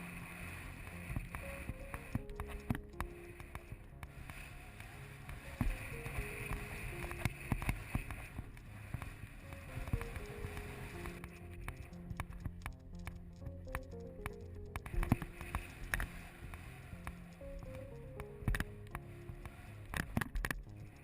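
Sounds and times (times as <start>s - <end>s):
simple melody over bass: 0.0s - 21.0s.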